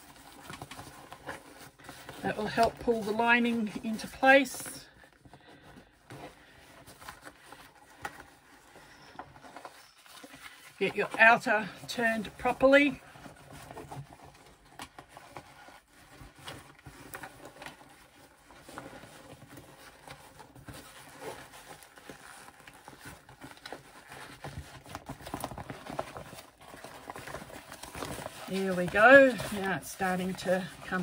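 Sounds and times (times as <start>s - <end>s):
fabric rustling and creasing: 0.0s - 31.0s.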